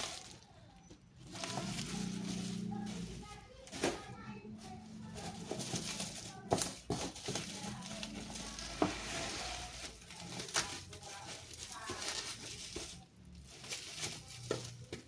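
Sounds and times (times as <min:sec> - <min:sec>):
faint voices: 0:00.0 - 0:15.0
plastic and paper crinkling: 0:00.0 - 0:15.0.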